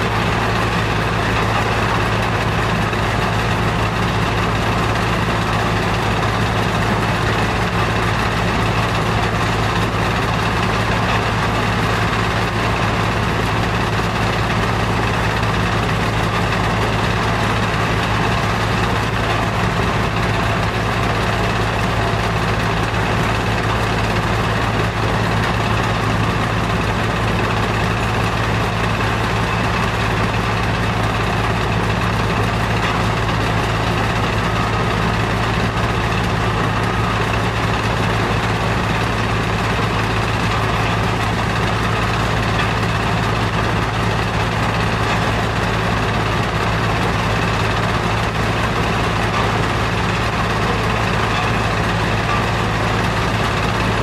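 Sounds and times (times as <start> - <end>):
stone crusher machinery running: 0.0 - 54.0.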